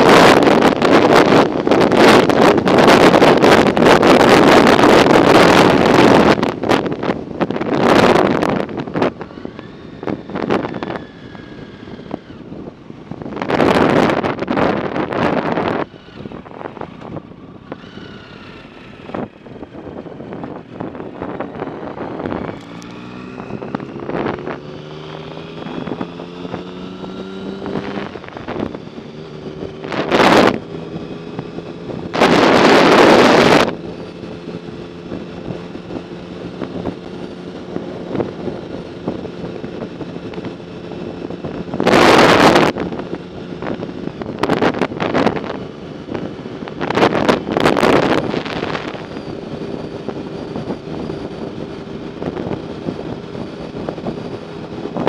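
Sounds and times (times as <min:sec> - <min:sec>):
vehicle engine drone: 0:00.0 - 0:55.0
wind buffeting microphone: 0:00.0 - 0:55.0.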